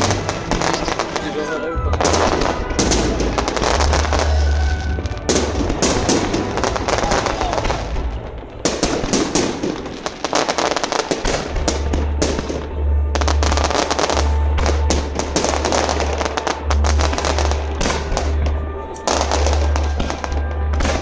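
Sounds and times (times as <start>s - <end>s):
fireworks bangs and crackling: 0.0s - 21.0s
music playing: 0.0s - 21.0s.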